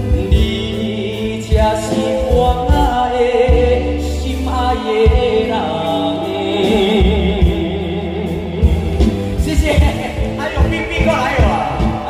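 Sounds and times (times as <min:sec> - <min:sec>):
bass line: 0:00.0 - 0:12.0
pop ballad singing: 0:00.0 - 0:12.0.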